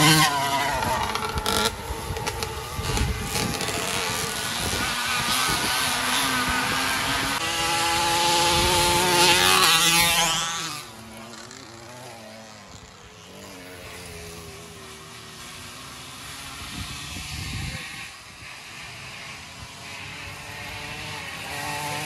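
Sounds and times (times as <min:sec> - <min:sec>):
distant engines: 0:00.0 - 0:22.0
small engine buzzing past: 0:00.0 - 0:22.0.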